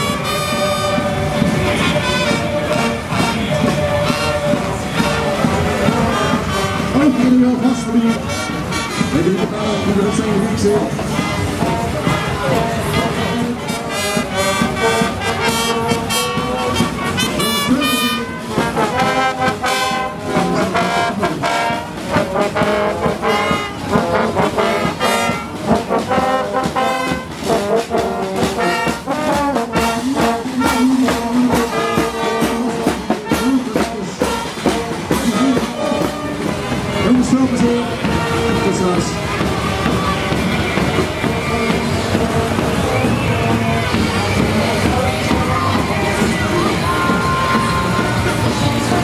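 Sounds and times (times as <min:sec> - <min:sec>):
brass band playing: 0:00.0 - 0:49.0
steady drum beat: 0:00.0 - 0:49.0.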